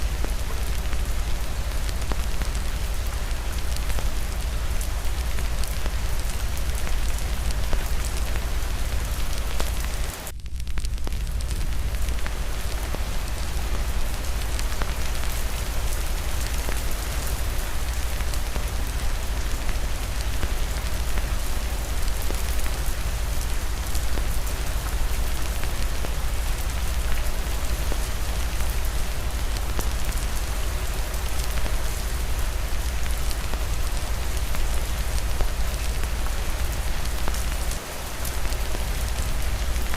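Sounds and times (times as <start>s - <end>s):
steady rain falling: 0.0s - 39.9s
wood fire crackling: 0.0s - 39.9s.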